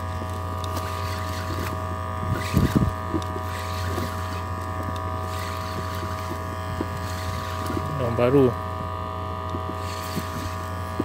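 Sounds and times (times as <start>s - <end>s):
steady even hum: 0.0s - 11.0s.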